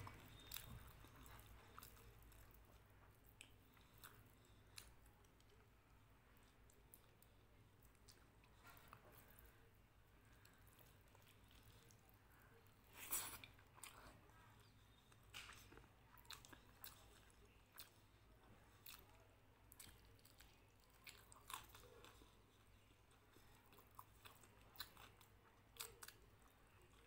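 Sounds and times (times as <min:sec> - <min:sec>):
mouth chewing with crunches: 0:00.0 - 0:27.0.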